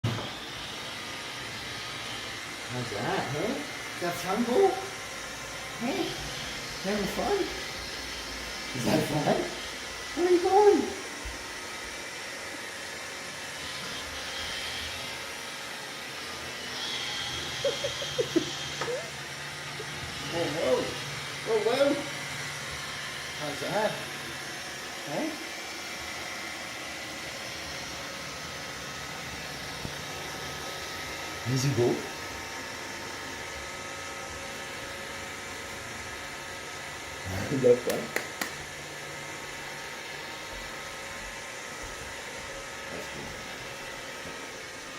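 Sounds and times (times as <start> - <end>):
robot vacuum motor whirring: 0.0 - 44.9.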